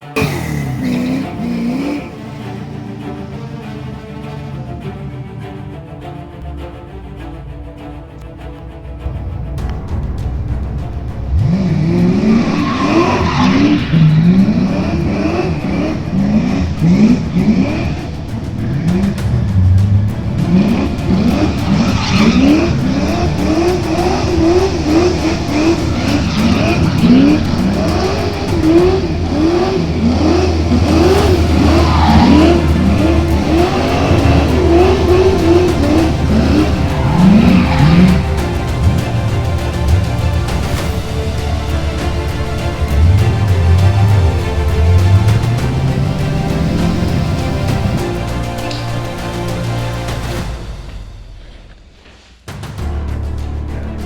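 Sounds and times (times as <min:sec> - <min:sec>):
race car engine revving: 0:00.0 - 0:51.7
music: 0:00.0 - 0:54.0.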